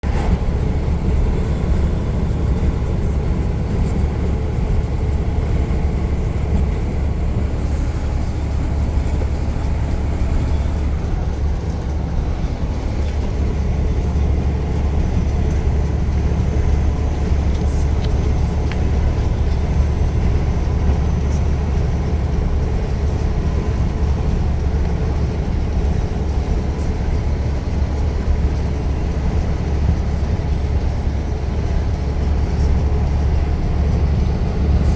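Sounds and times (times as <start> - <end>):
truck engine and road rumble: 0.0 - 34.9.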